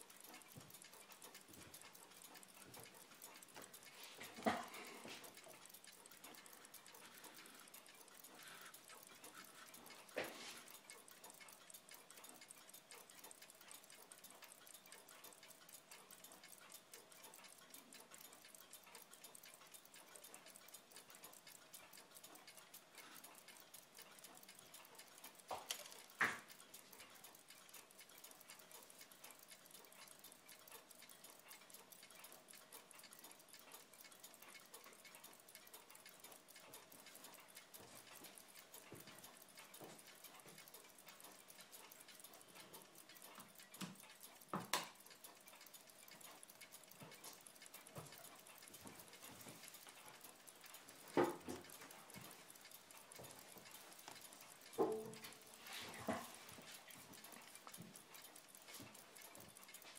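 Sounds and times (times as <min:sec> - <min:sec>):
pocket watch ticking: 0:00.0 - 0:59.9.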